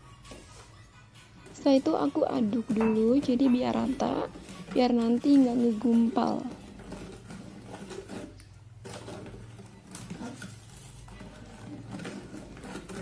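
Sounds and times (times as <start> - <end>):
utensil stirring in metal pot: 1.2 - 13.0.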